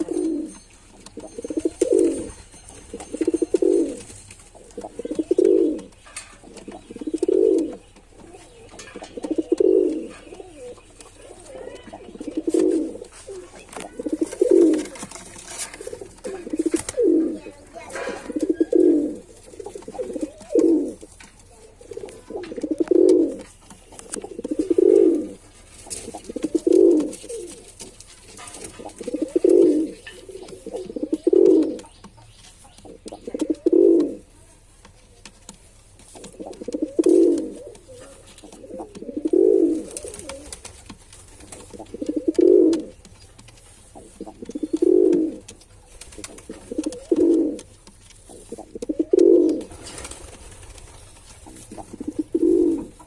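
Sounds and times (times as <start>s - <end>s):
pigeon cooing: 0.0s - 31.9s, 32.7s - 34.5s, 36.2s - 40.8s, 41.5s - 43.1s, 43.9s - 47.7s, 48.3s - 50.8s, 51.4s - 53.0s.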